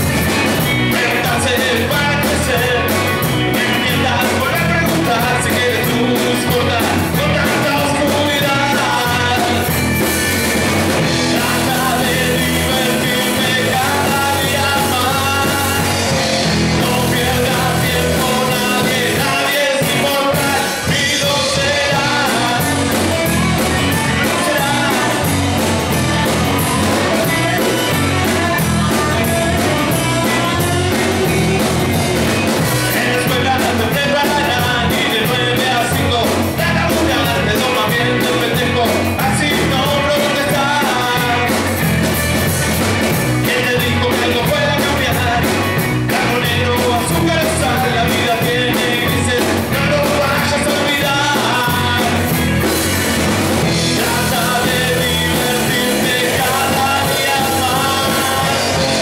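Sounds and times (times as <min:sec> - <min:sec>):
man singing: 0:00.0 - 0:42.2, 0:43.1 - 0:59.0
electric bass: 0:00.0 - 0:59.0
electric guitar: 0:00.0 - 0:59.0
steady drum beat: 0:00.0 - 0:59.0.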